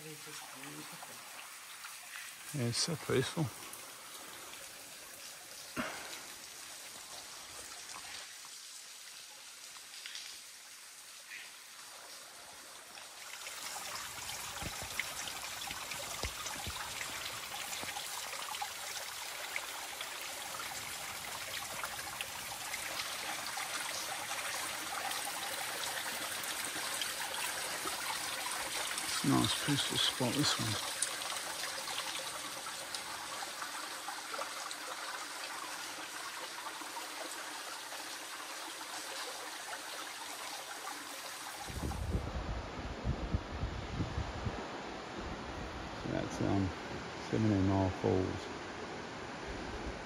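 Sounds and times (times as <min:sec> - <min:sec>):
water trickling and dripping over rocks: 0:00.0 - 0:42.2.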